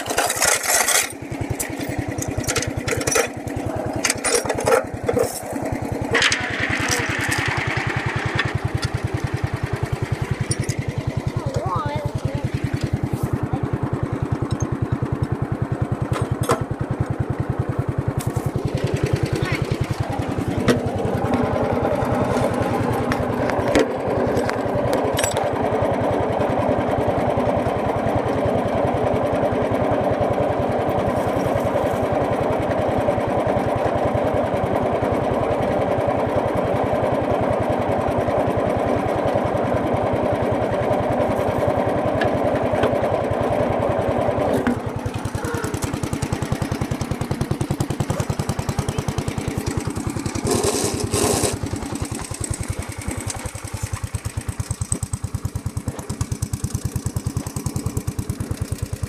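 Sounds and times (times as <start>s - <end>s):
lawn tractor engine running: 0.0s - 59.0s.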